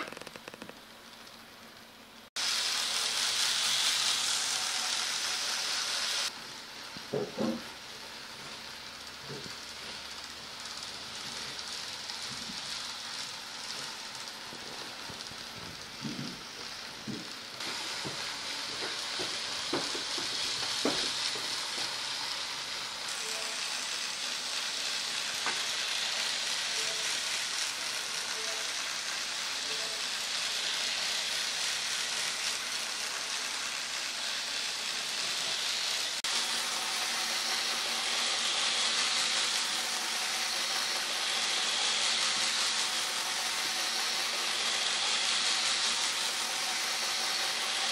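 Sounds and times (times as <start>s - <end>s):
model train wheels and motor hiss: 0.0s - 47.9s.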